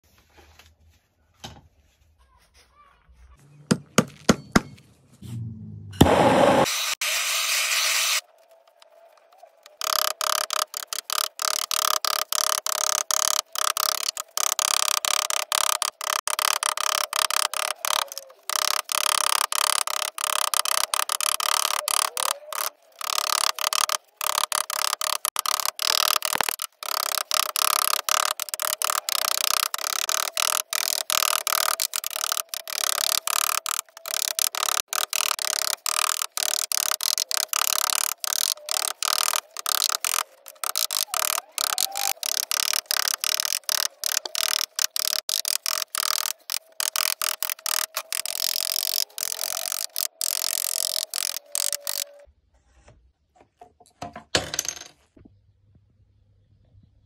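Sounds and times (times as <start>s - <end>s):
harsh steady noise: 5.5s - 52.3s.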